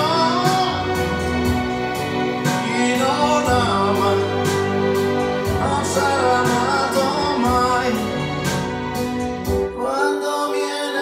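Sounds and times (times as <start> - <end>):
pop ballad over loudspeakers: 0.0 - 11.0.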